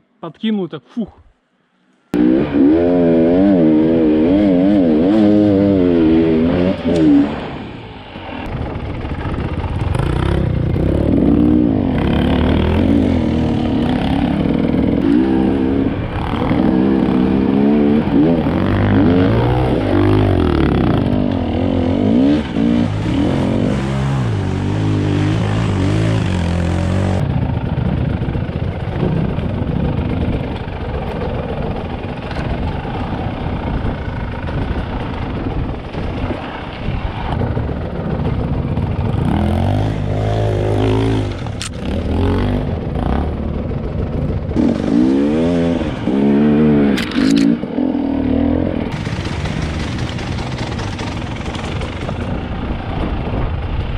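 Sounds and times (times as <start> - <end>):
dirt bike engines revving: 2.1 - 53.8.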